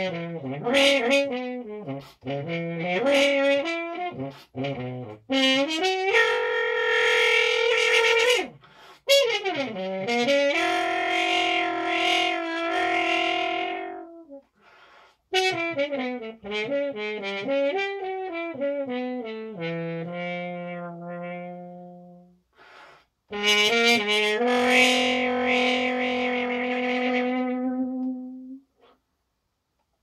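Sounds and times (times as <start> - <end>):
muted french horn blues: 0.0 - 29.0.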